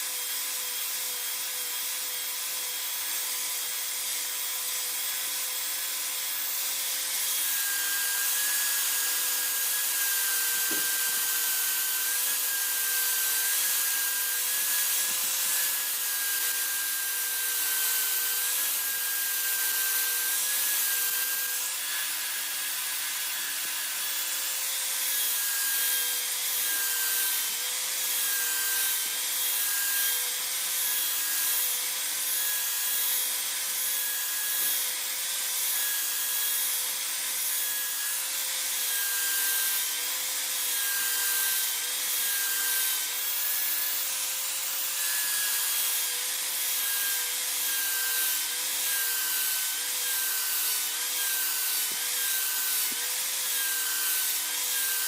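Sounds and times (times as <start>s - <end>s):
power sander whining: 0.0s - 55.0s.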